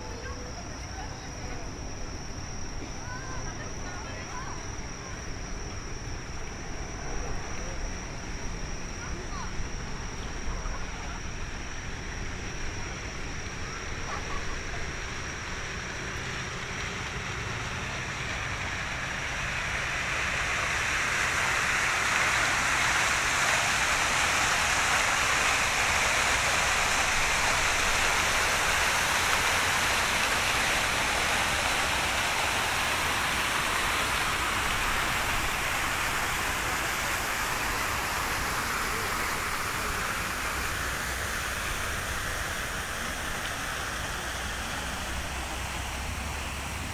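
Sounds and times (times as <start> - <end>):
fountain jets splashing: 0.0 - 46.9.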